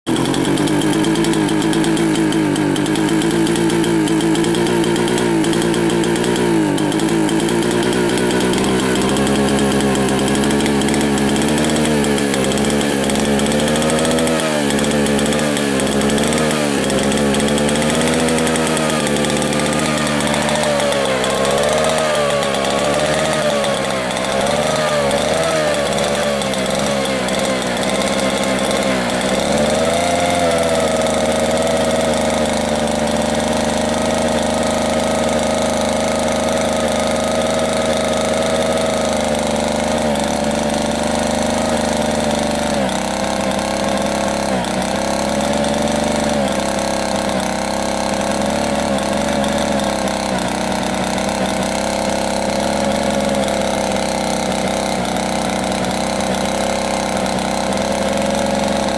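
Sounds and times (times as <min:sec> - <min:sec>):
chainsaw engine running: 0:00.0 - 0:58.9.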